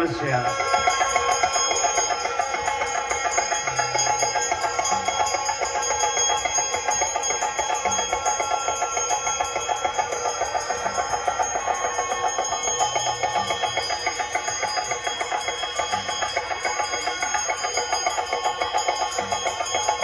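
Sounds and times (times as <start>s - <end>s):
hand bells ringing: 0.0s - 20.0s.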